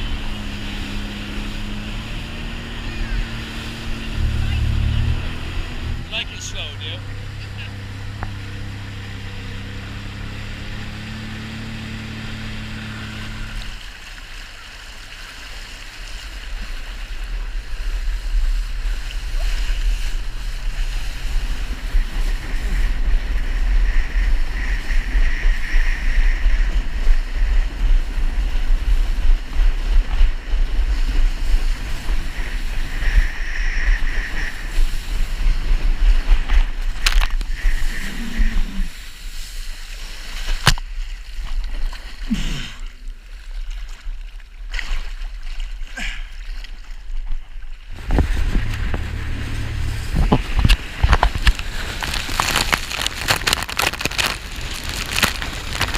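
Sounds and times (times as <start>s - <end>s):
wind rumble on microphone: 0.0s - 14.0s, 16.0s - 42.1s, 47.2s - 55.9s
jet ski engine and spray: 0.0s - 43.1s, 47.8s - 55.9s.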